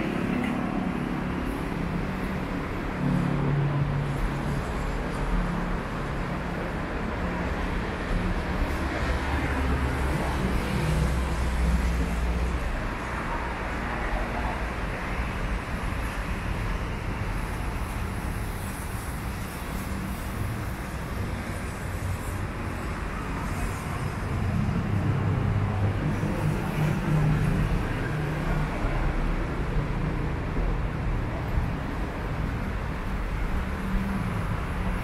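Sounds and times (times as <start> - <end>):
hum of passing cars: 0.0 - 35.0.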